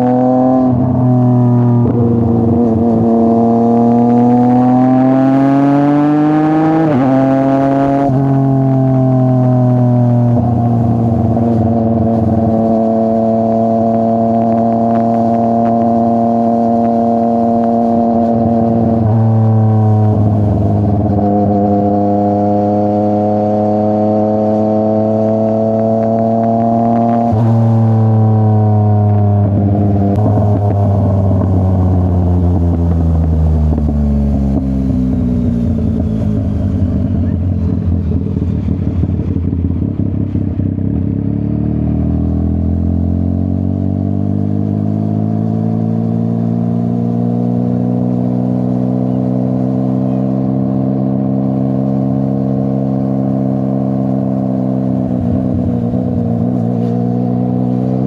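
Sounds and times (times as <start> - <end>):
motorcycle engine riding: 0.0 - 58.0.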